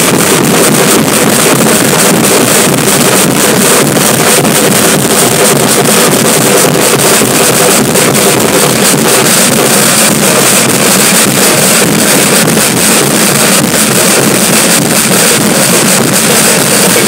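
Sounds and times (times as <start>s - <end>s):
drum group playing: 0.0s - 17.0s.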